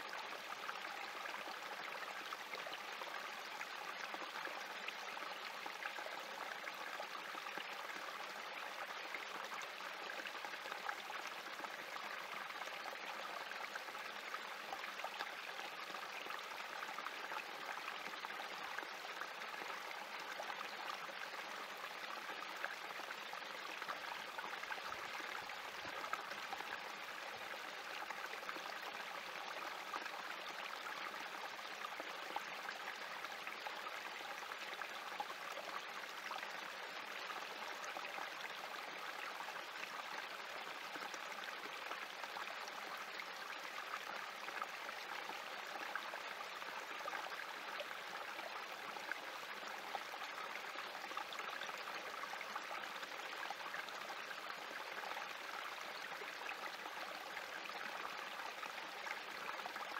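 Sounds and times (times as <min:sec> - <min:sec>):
creek trickling over rocks: 0:00.0 - 0:59.9.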